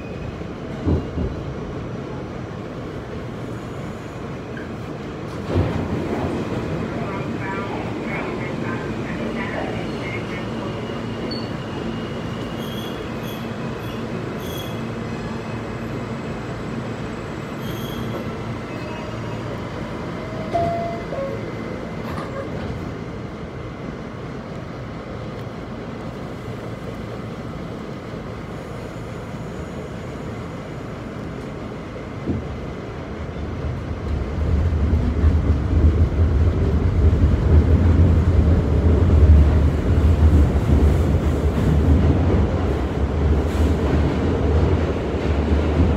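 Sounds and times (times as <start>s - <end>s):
subway car rumble and rattle: 0.0s - 45.9s.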